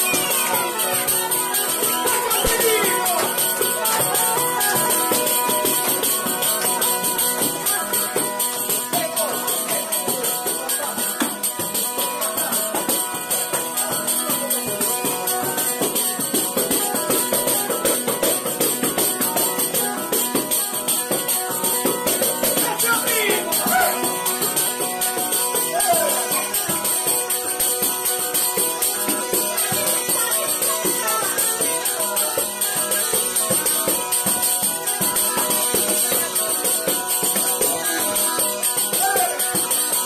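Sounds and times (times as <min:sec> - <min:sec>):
bagpipe playing: 0:00.0 - 0:40.0.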